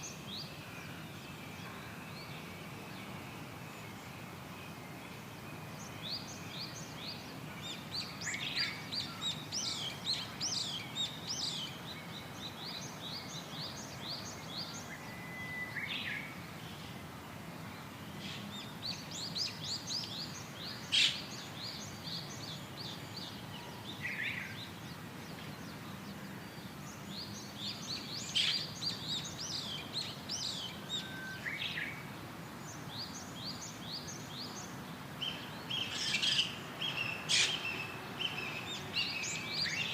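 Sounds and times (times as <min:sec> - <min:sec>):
faint hiss: 0:00.0 - 0:39.9
small birds chirping: 0:00.0 - 0:39.9.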